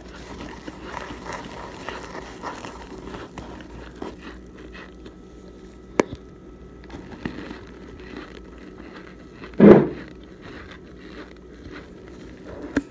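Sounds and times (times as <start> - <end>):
crunching and chewing: 0.0 - 12.9.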